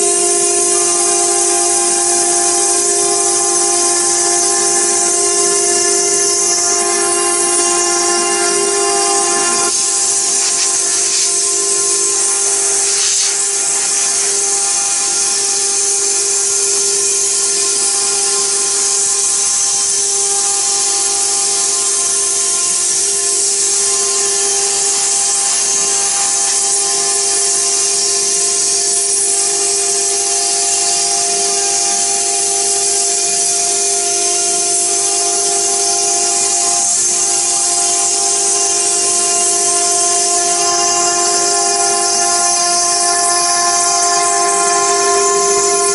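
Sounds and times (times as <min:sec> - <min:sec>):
stone router cutting stone: 0:00.0 - 0:45.9.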